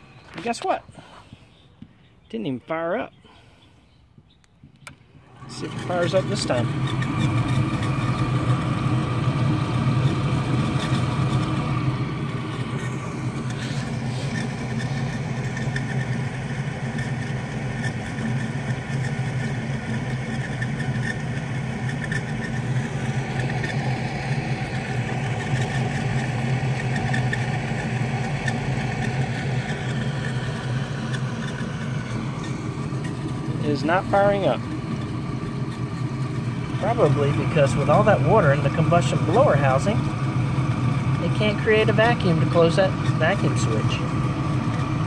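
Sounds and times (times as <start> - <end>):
blower running steadily: 0.0 - 45.0.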